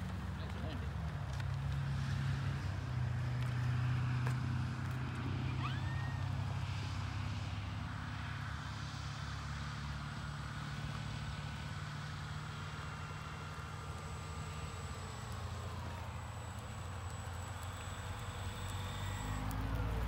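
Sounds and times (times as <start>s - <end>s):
electric motors and propellers humming: 0.0s - 20.0s.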